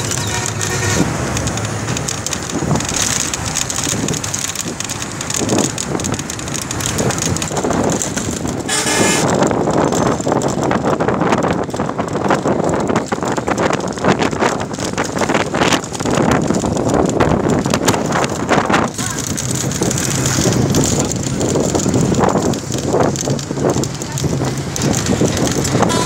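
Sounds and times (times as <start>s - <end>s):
vehicle rumble and rushing: 0.0s - 26.0s
wind on microphone: 0.0s - 26.0s.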